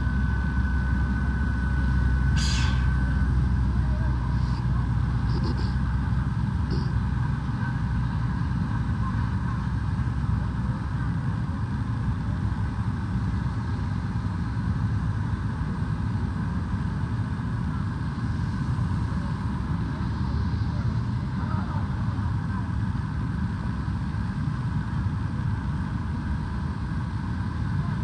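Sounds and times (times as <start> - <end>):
aircraft engine rumble and whine: 0.0 - 28.0.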